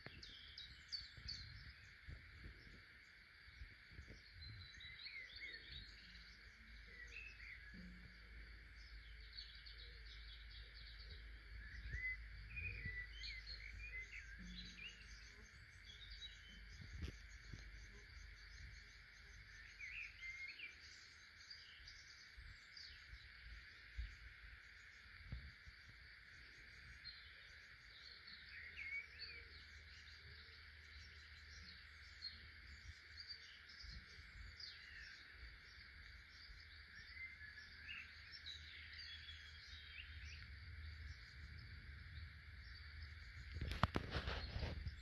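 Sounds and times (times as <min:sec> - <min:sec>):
small birds chirping: 0:00.0 - 0:45.0
steady high hiss: 0:00.0 - 0:45.0.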